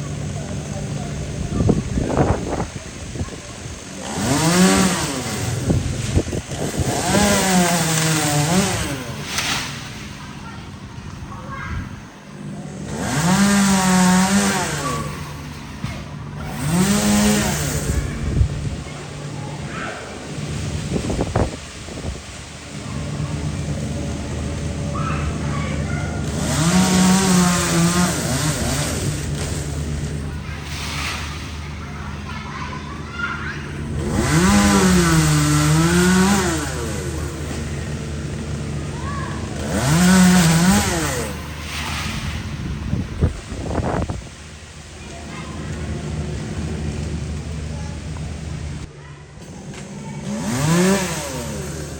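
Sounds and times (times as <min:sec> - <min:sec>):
chainsaw engine revving: 0:00.0 - 0:51.9.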